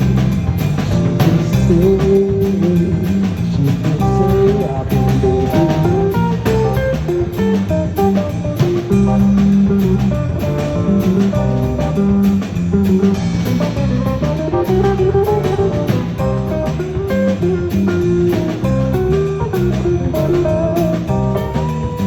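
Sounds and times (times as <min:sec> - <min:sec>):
drum kit beat: 0:00.0 - 0:22.0
guitar playing: 0:00.0 - 0:22.0.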